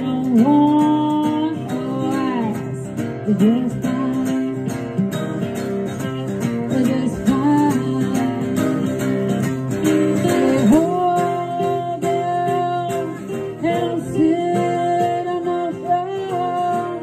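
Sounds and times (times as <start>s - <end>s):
acoustic guitars: 0.0s - 17.0s
woman singing: 0.0s - 17.0s.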